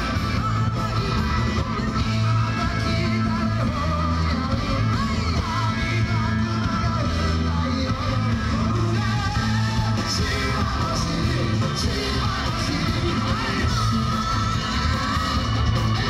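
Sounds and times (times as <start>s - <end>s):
electric guitar: 0.0s - 16.0s
live rock band playing: 0.0s - 16.0s
person singing: 0.0s - 16.0s.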